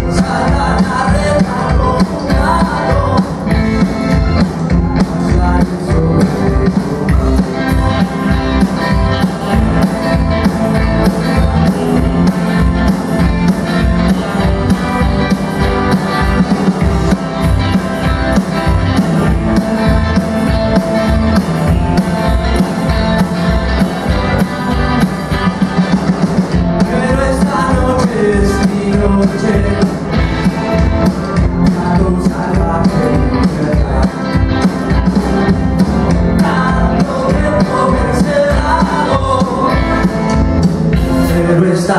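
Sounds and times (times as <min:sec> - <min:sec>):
rock and roll band playing: 0:00.0 - 0:41.9.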